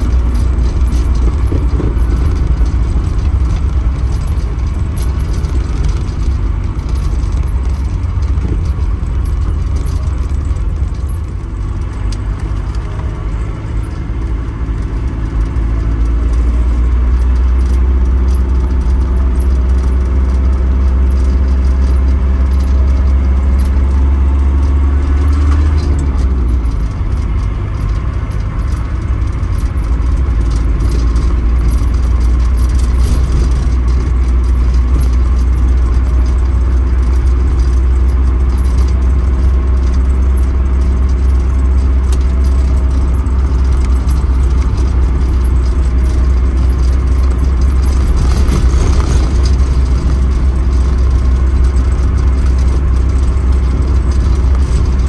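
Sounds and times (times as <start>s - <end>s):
engine and road drone: 0.0s - 55.0s
loose items rattling and jingling: 0.0s - 55.0s.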